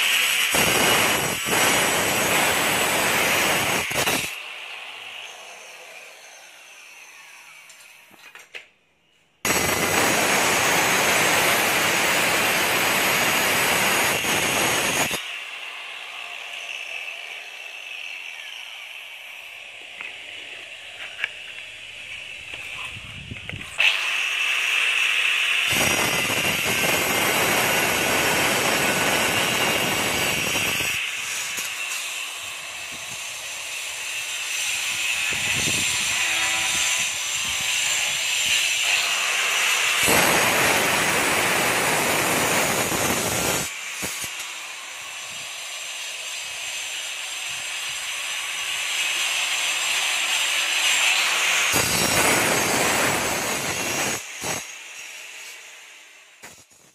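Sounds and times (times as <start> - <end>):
electric cutter grinding stone: 0.0 - 8.2, 9.5 - 56.9.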